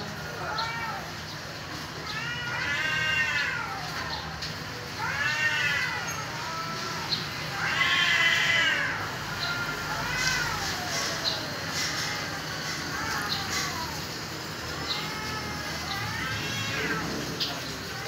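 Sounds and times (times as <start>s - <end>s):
cats yowling: 0.0s - 18.0s.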